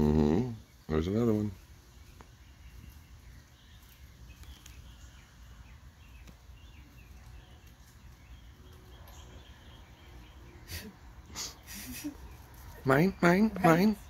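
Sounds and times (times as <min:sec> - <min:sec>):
bird chirps: 0:00.4 - 0:14.0.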